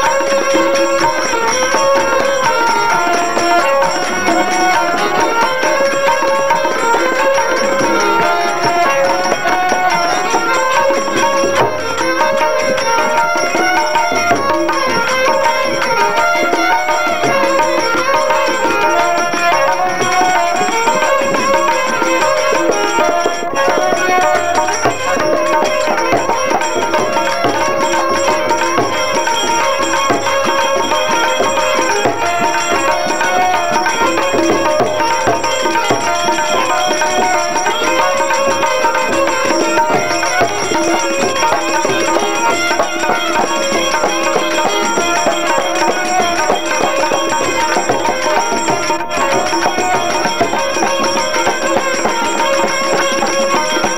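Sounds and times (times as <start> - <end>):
harmoniums: 0.0 - 53.9
tabla rhythm: 0.0 - 53.9
violin melody: 0.0 - 53.9.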